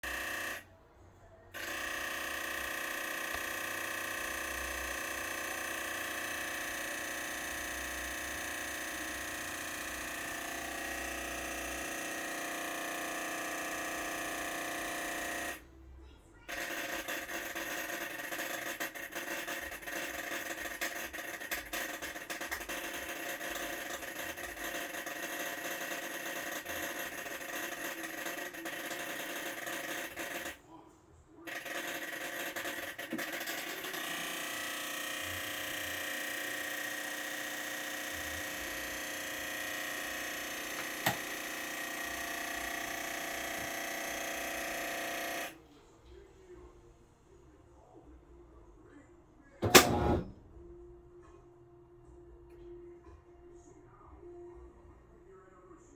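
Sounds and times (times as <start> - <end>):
washing machine high-pitched whine: 0.0 - 30.8, 31.4 - 45.8, 49.5 - 54.6.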